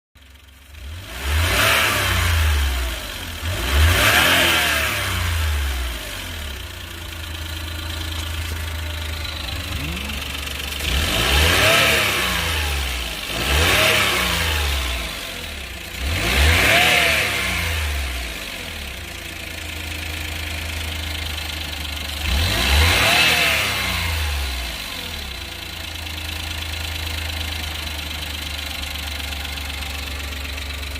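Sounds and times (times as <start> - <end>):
car engine revving: 0.7 - 28.2.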